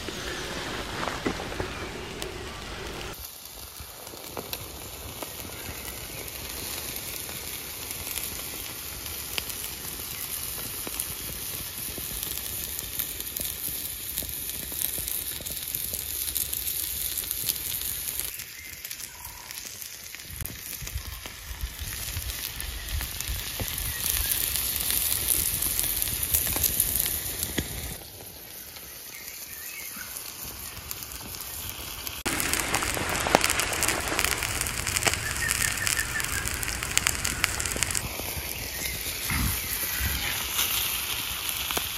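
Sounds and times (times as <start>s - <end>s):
wood fire crackling: 0.0s - 29.5s, 30.1s - 41.9s
food sizzling on hot slate: 0.0s - 41.9s.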